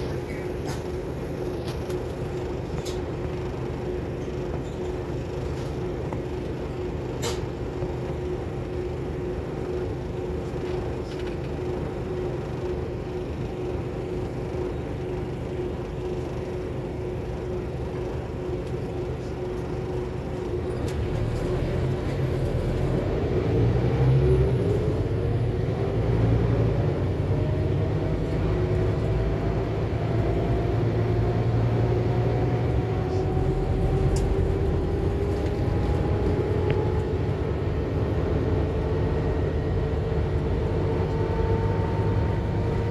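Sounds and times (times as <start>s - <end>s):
bus engine droning with whine: 0.0s - 42.9s.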